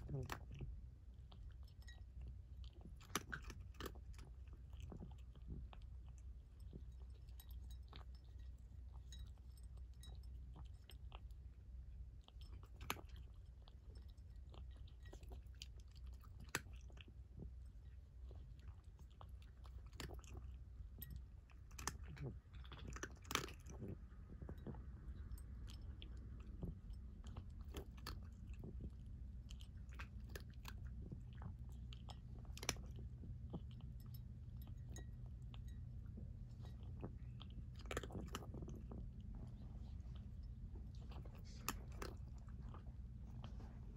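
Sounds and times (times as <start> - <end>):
cat chewing from bowl: 0.0 - 43.9.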